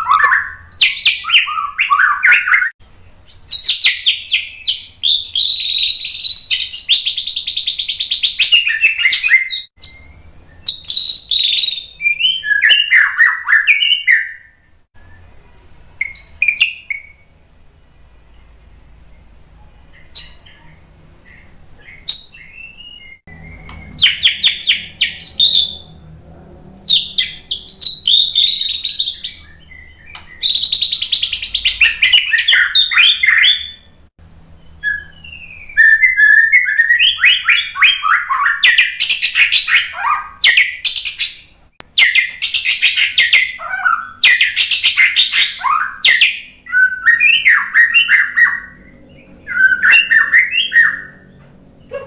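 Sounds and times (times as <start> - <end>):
bird singing rapid whistles: 0.0 - 17.3, 19.2 - 26.0, 26.8 - 51.4.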